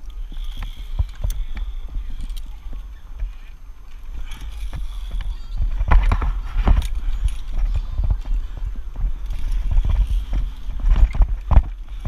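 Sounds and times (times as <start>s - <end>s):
wind rumble on microphone: 0.0s - 12.0s
footsteps on wooden beams: 0.4s - 12.0s.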